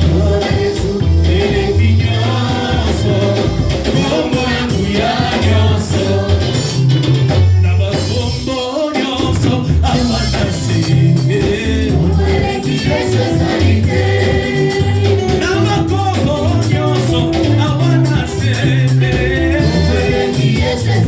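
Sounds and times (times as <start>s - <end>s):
band with pulsing bass: 0.0s - 21.0s
voices singing gospel: 0.0s - 21.0s.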